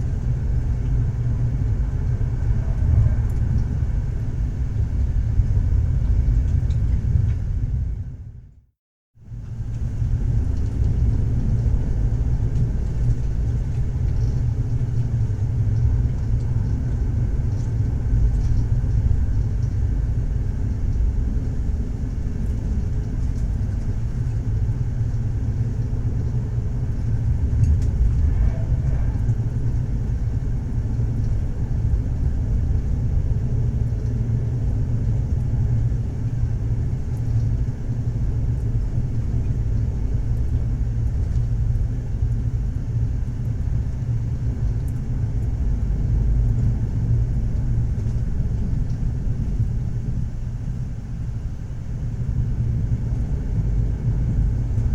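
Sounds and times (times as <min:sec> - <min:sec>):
train rumbling on rails: 0:00.0 - 0:08.5, 0:09.2 - 0:54.9.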